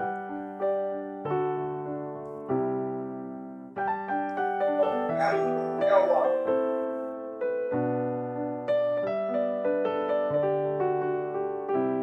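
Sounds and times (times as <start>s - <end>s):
slow electric piano chords: 0.0s - 12.0s.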